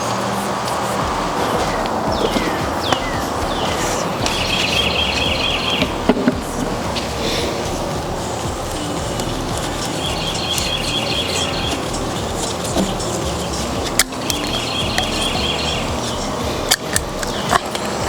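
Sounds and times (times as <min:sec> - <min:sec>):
bird trilling: 0:00.0 - 0:18.0
outdoor background noise: 0:00.0 - 0:18.0.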